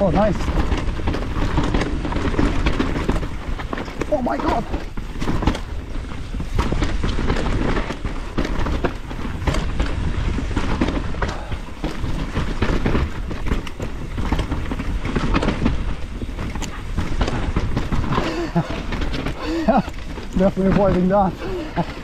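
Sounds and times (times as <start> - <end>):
bike clattering over roots: 0.0 - 22.0
bike tyres rumbling on dirt: 0.0 - 22.0.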